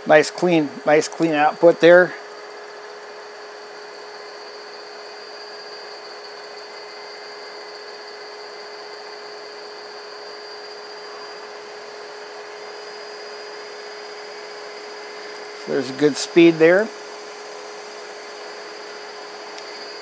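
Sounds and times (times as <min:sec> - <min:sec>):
electric motor whirring: 0:00.0 - 0:20.0.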